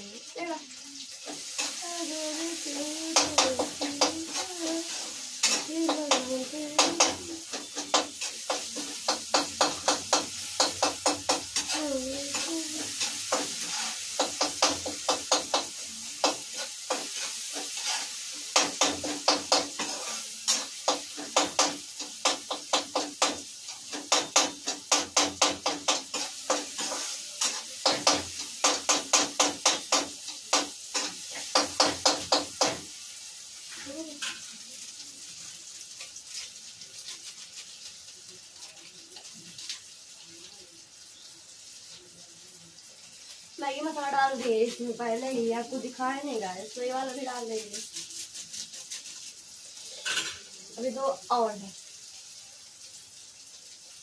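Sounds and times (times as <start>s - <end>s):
food sizzling: 0.0s - 54.0s.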